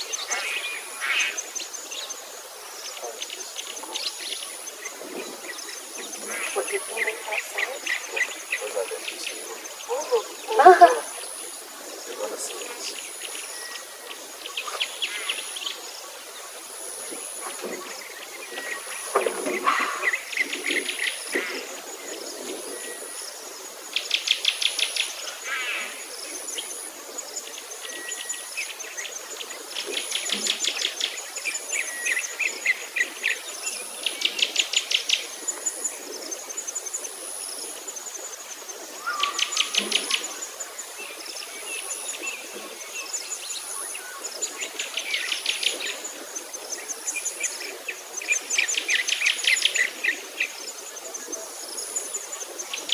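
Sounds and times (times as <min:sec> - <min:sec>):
pulsing insect chirr: 0:00.0 - 0:52.9.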